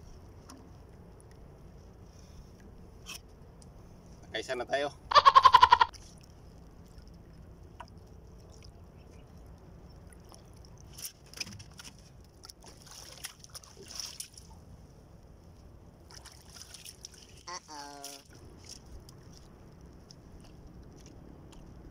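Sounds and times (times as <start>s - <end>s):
faint splashes and knocks: 0.0s - 3.7s, 5.9s - 14.7s, 16.0s - 21.9s
water lapping against boat hull: 0.0s - 4.3s, 5.4s - 21.9s.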